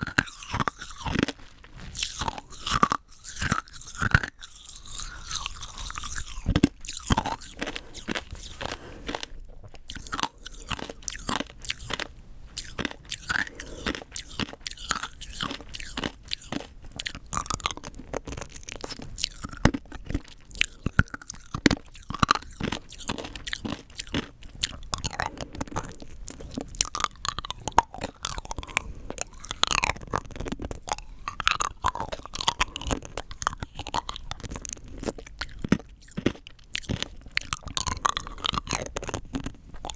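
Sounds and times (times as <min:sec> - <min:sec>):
hard candy crunching: 0:00.0 - 0:39.9.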